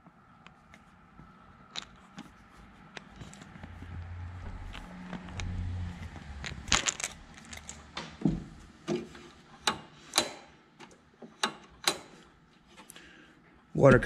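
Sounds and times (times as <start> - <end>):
hand tools and metal parts clicking: 1.6 - 13.0.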